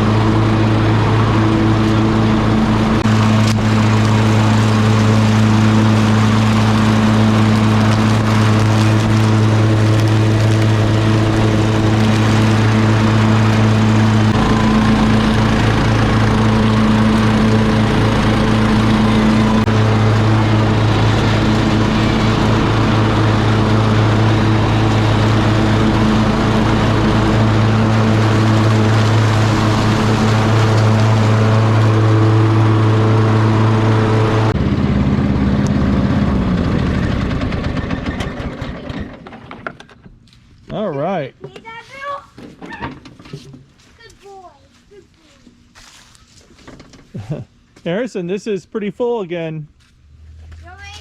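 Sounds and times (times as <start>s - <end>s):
riding lawn mower running: 0.0s - 40.8s, 44.8s - 51.0s.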